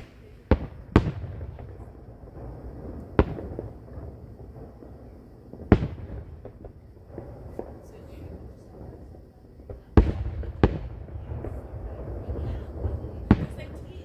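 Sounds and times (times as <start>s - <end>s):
distant fireworks booming: 0.0s - 14.0s.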